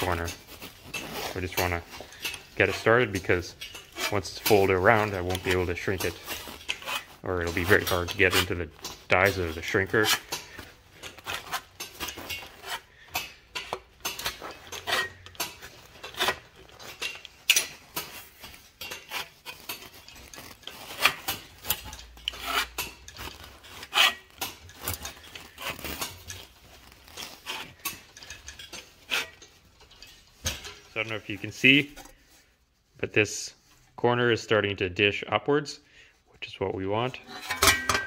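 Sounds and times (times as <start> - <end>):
steel sheet rattling and rubbing: 0.0 - 32.5, 37.0 - 38.0.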